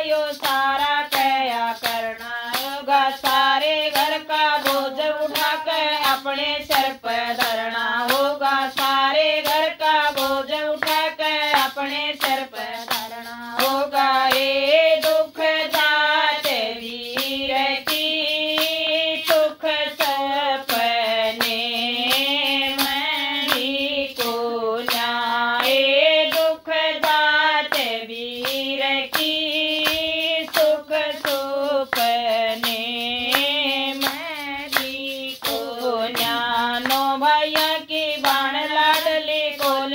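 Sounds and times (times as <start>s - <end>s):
hand claps: 0.0s - 39.9s
woman singing folk song: 0.0s - 39.9s.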